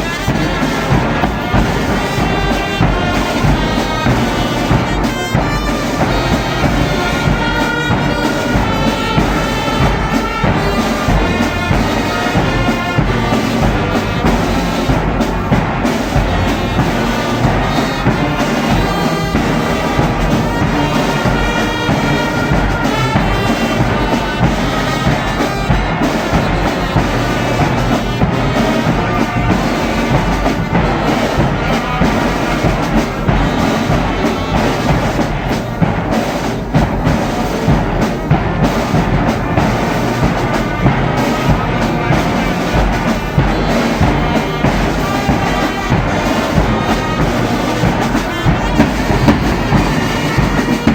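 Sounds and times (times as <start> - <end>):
brass band playing: 0.0 - 50.9
drums striking steady beat: 0.0 - 50.9.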